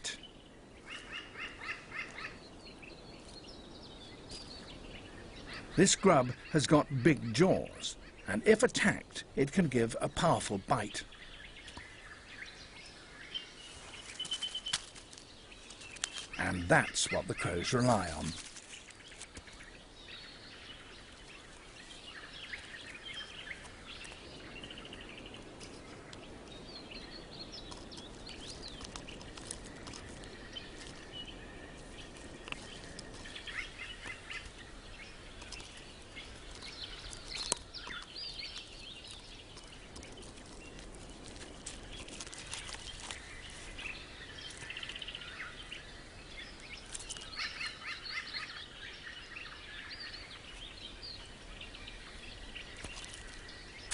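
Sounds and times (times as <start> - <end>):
birds chirping and calling: 0.0 - 53.9
steady outdoor hiss: 0.0 - 53.9.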